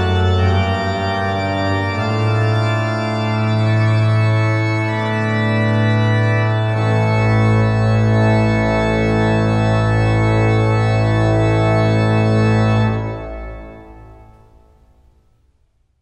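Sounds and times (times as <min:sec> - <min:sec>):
pipe organ chord: 0:00.0 - 0:15.2.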